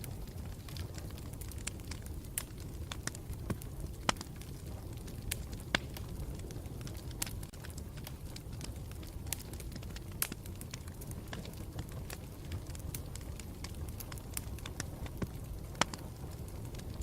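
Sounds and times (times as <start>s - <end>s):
campfire rumbling: 0.0s - 17.0s
fire crackling and popping: 0.0s - 17.0s.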